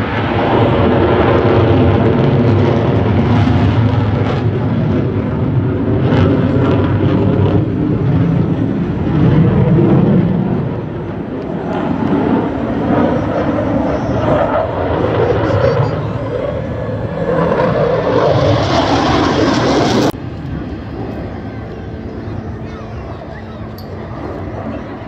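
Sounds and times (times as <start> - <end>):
fighter jet engine rumble: 0.0 - 25.0.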